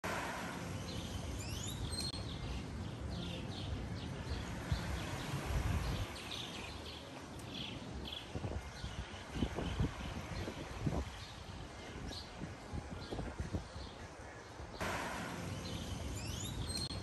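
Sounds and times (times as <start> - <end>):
birds chirping: 0.4 - 17.0.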